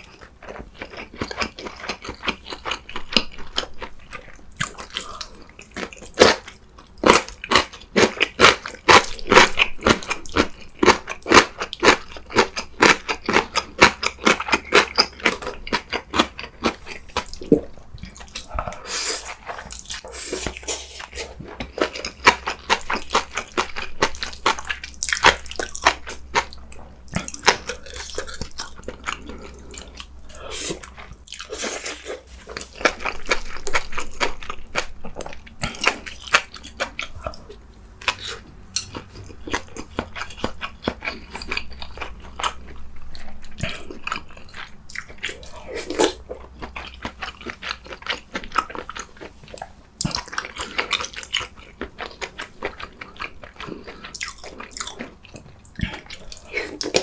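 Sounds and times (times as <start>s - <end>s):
wet chewing mouth sounds: 0.0s - 57.0s.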